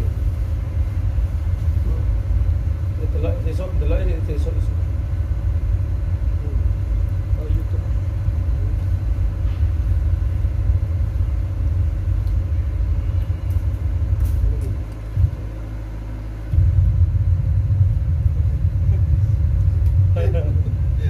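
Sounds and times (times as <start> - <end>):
deep subwoofer bass rumble: 0.0 - 21.0.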